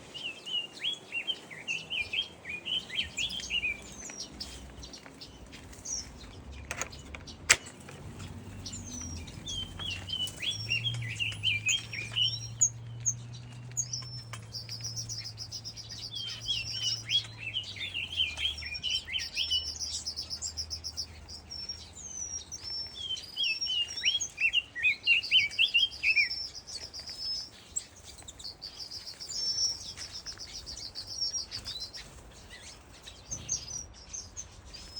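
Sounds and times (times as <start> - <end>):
buzzy bird trilling song: 0.0 - 34.9
small birds chirping: 0.0 - 34.9.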